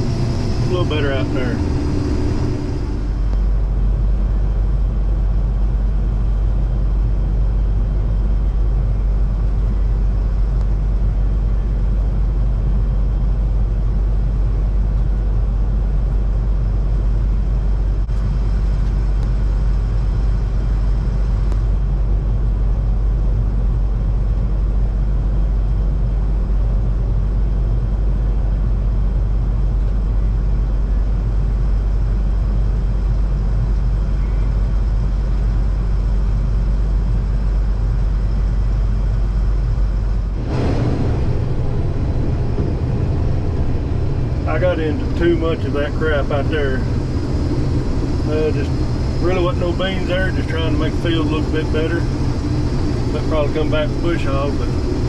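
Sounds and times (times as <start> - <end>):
combine harvester rumbling: 0.0 - 55.0.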